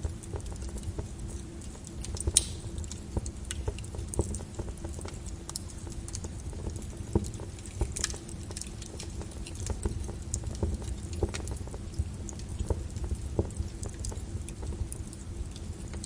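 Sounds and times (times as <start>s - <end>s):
lava crackling and popping: 0.0s - 16.0s.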